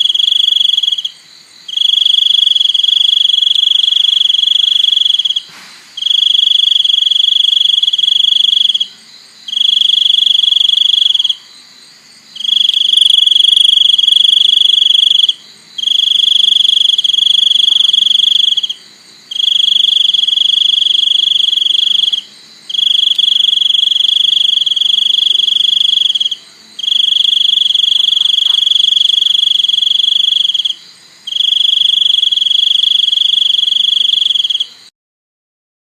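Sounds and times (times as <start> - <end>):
cricket trilling: 0.0 - 34.9.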